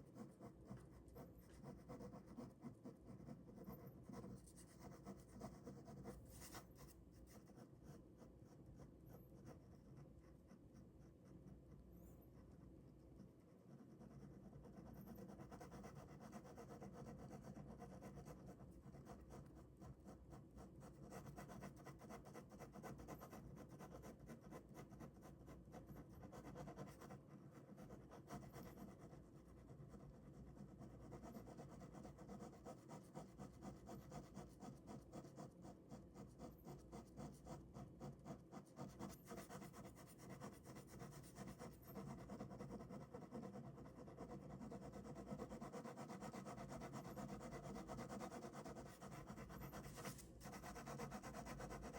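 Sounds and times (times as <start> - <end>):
ballpoint pen scratching paper: 0.0 - 11.8, 13.7 - 51.9.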